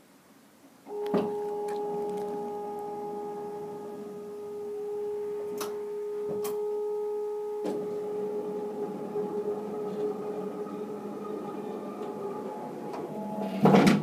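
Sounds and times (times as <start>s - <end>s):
power sliding door whining: 0.9s - 14.0s.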